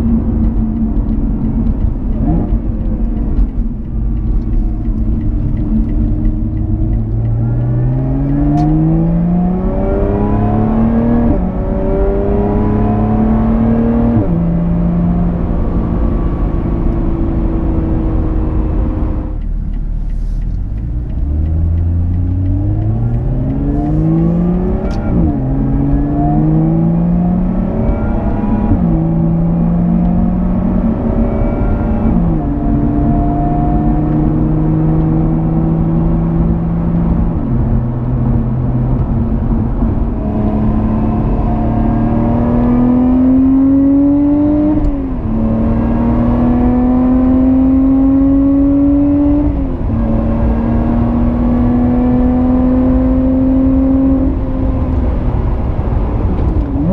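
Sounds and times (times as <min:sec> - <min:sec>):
car engine accelerating hard: 0:00.0 - 0:56.9.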